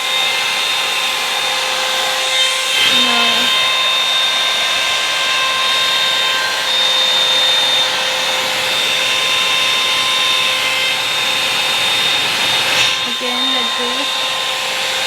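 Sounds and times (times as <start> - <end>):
hot-air brush dryer running: 0.0 - 15.0.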